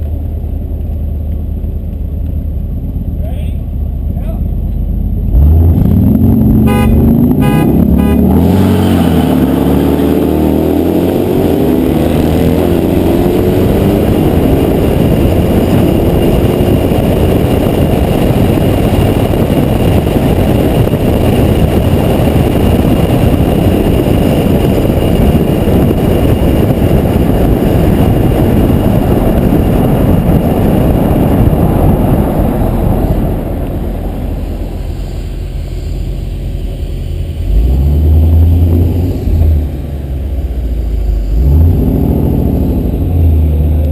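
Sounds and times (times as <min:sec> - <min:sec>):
vehicle engine accelerating: 0:00.0 - 0:43.9
wind and road noise: 0:00.0 - 0:43.9.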